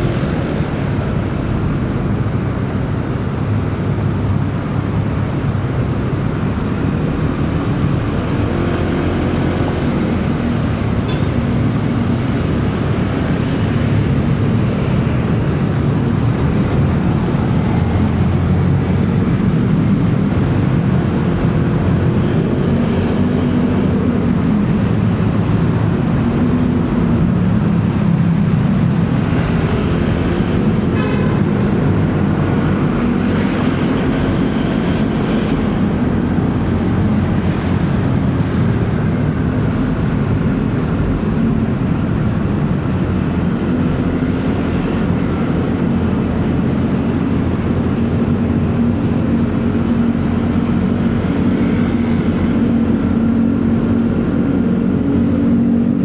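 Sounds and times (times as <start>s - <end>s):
road and wind noise: 0.0s - 56.0s
surrounding traffic: 0.0s - 56.0s.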